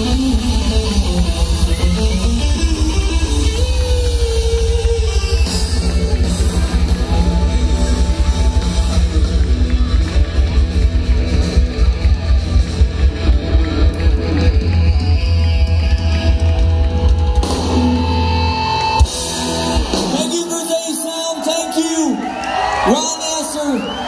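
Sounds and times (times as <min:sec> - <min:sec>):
live rock band: 0:00.0 - 0:24.0.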